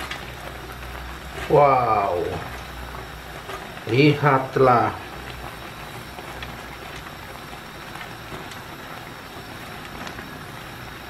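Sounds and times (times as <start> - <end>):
sauce simmering in a pan: 0.0 - 11.0.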